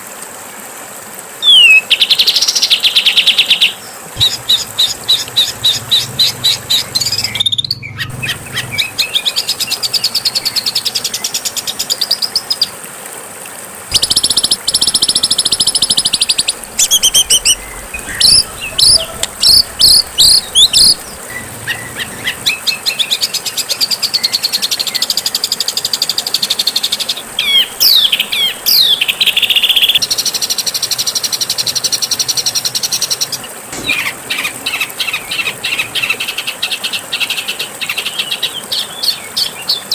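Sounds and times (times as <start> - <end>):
bird song with trills and whistles: 1.4 - 11.3, 13.9 - 26.0, 26.7 - 31.5, 33.8 - 39.9.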